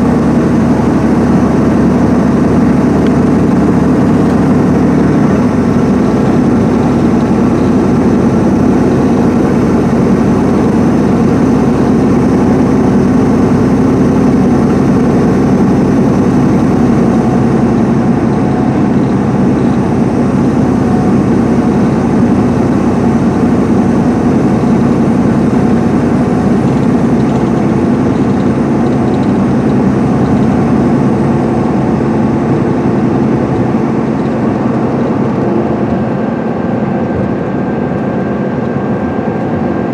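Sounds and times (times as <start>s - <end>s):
diesel coach engine running: 0.0s - 39.9s
road noise: 0.0s - 39.9s.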